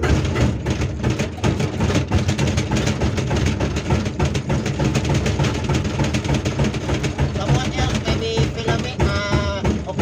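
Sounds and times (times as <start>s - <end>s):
excavator diesel engine running: 0.0s - 10.0s
hydraulic breaker hammering rock: 0.0s - 10.0s.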